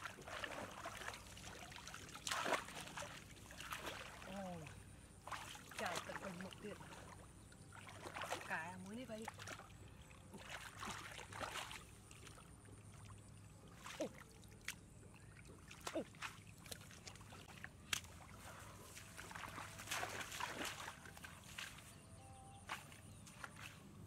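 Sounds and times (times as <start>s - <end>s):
hands splashing in muddy water: 0.0s - 12.5s, 15.5s - 22.0s, 22.6s - 23.9s.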